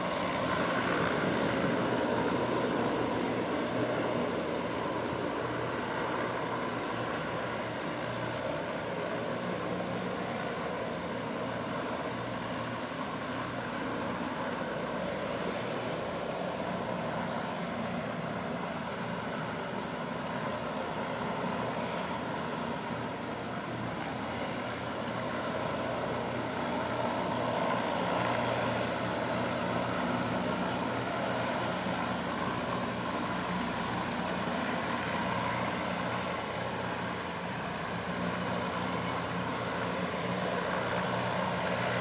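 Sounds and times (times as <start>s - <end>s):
distant engines droning: 0.0s - 42.0s.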